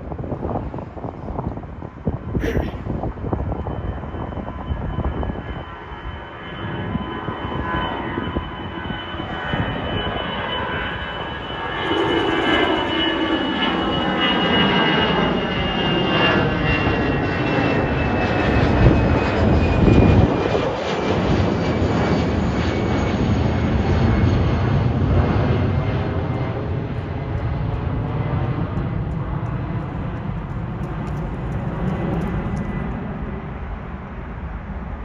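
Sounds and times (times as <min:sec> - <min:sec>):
jet airliner engines passing: 0:00.0 - 0:35.0.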